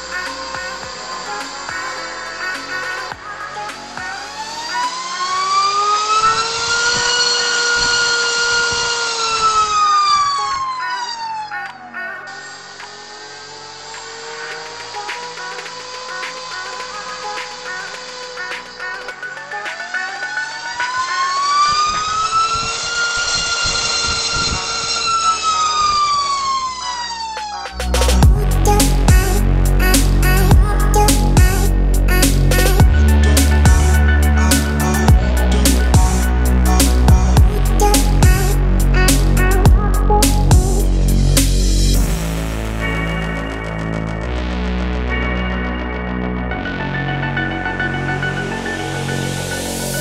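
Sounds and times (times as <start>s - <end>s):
motor and propeller whine: 0.0s - 50.0s.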